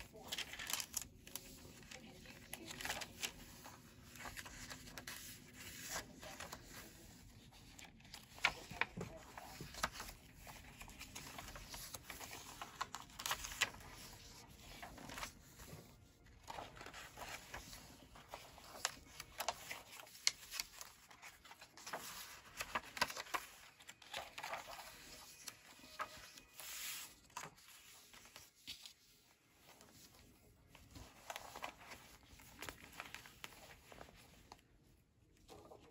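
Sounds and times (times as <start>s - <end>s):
paper pages rustling: 0.0s - 35.9s.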